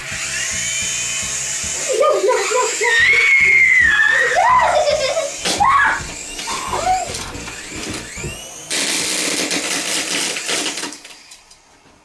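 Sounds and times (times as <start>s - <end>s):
toy helicopter motor whirring: 0.0s - 11.5s.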